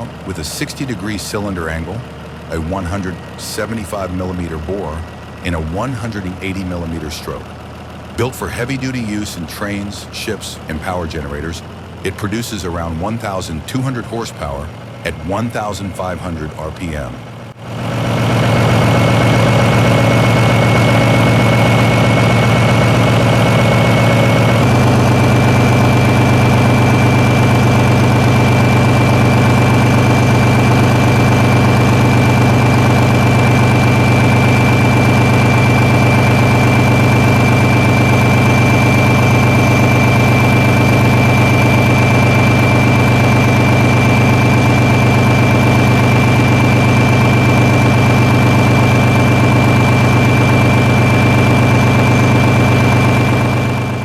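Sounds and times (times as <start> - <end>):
diesel engine running: 0.0 - 54.0
high steady whine: 0.0 - 54.0.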